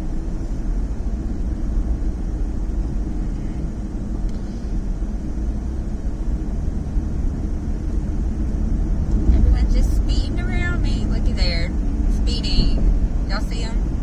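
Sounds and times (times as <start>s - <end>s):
car cabin road noise: 0.0s - 14.0s.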